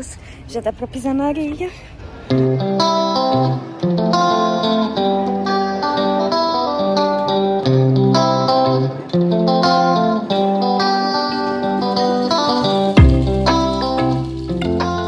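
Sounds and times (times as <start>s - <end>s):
guitar playing held chords: 2.3s - 15.0s.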